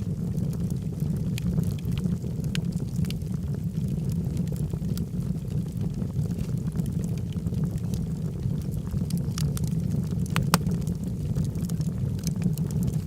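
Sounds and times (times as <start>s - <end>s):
fire rumbling: 0.0s - 13.0s
wood crackling and popping: 0.0s - 13.0s.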